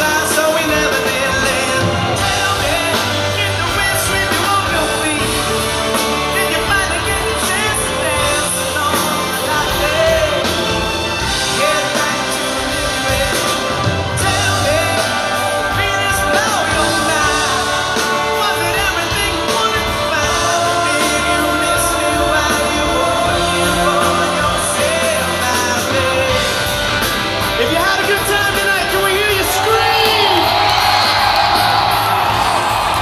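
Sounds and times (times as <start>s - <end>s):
crowd shouting and cheering: 0.0s - 33.0s
live rock band: 0.0s - 33.0s
man singing lead vocals: 0.0s - 33.0s.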